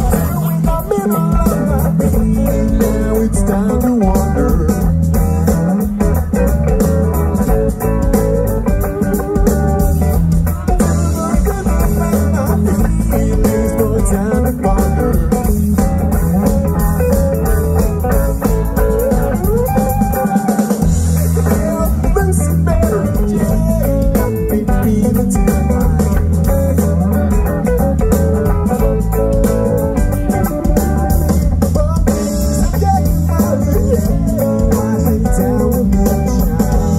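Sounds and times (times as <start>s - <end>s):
bass guitar: 0.0s - 36.9s
drum kit: 0.0s - 36.9s
electric guitar: 0.0s - 36.9s.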